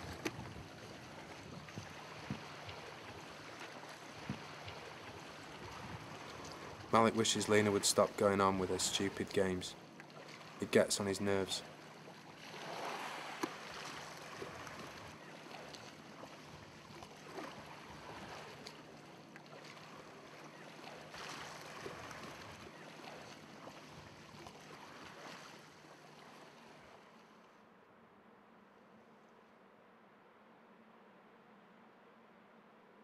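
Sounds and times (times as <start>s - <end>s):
sea water lapping: 0.0s - 27.4s.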